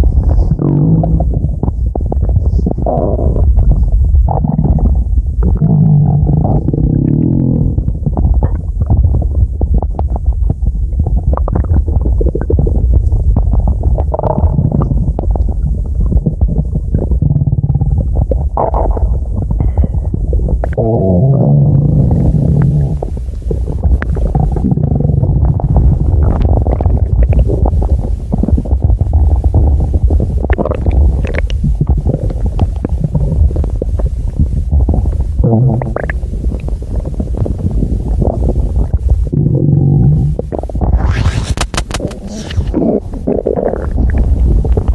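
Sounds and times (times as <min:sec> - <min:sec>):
stomach growling and gurgling: 0:00.0 - 0:44.9.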